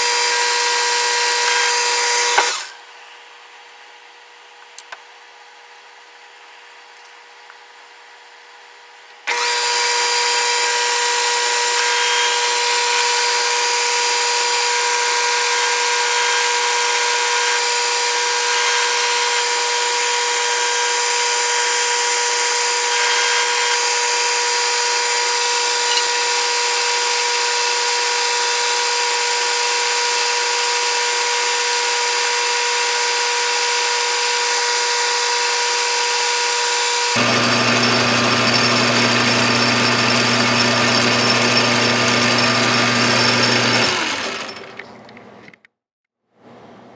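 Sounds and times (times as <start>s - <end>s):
metal lathe whining: 0.0s - 2.8s, 9.3s - 45.0s.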